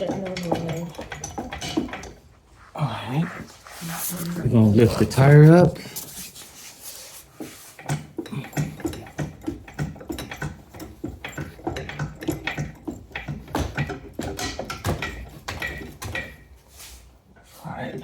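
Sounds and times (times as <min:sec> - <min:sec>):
hydraulic floor jack pumping: 0:00.0 - 0:17.6.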